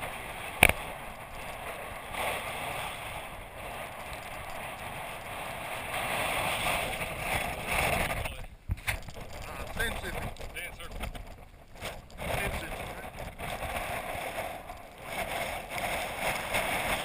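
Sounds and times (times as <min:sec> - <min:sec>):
wind blowing over microphone: 0:00.0 - 0:17.0.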